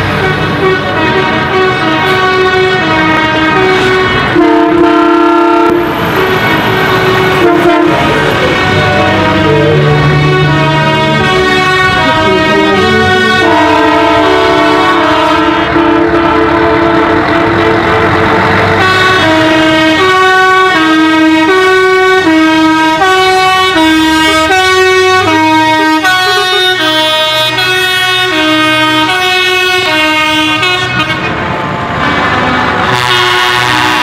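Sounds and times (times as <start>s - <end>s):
truck engines running: 0.0s - 34.0s
musical air horn melody: 0.1s - 34.0s.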